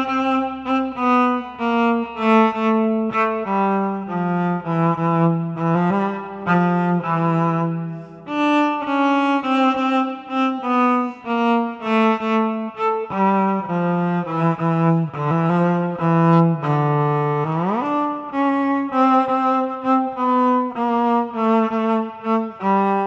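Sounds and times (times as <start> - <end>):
bowed cello melody: 0.0 - 23.0.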